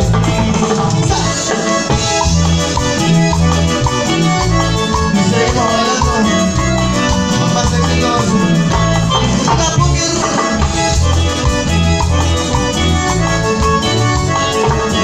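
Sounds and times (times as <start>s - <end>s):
electric guitars: 0.0s - 15.0s
keyboard: 0.0s - 15.0s
percussion: 0.0s - 15.0s
repeating bass line: 0.0s - 15.0s.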